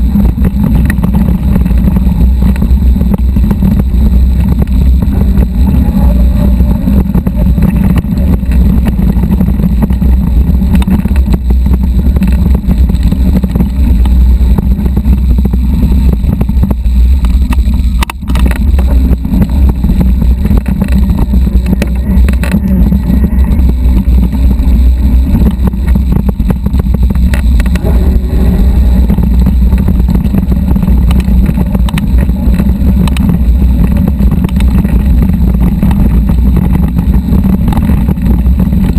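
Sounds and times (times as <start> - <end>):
bike riding rumble and buffeting: 0.0 - 38.9.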